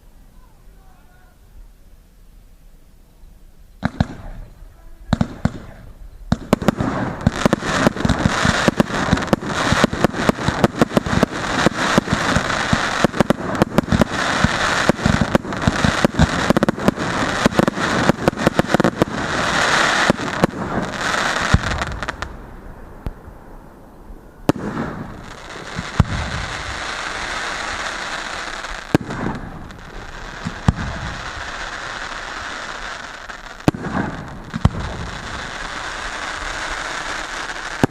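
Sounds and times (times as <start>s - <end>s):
fireworks crackling hiss: 0.0s - 37.9s
fireworks bangs: 3.8s - 37.9s.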